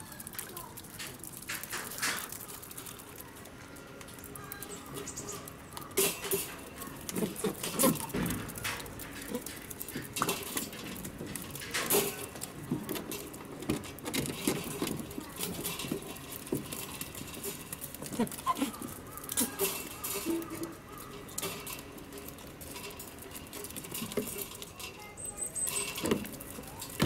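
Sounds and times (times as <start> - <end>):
penguins pattering on concrete: 0.0 - 27.0.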